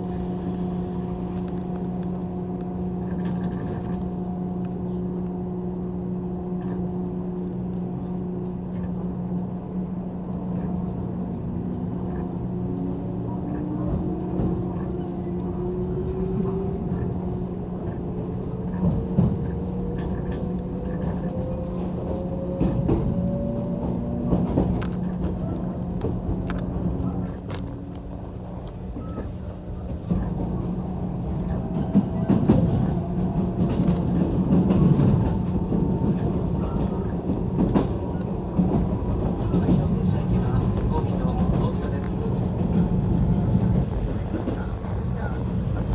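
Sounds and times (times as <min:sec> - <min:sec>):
electric train hum: 0:00.0 - 0:45.9.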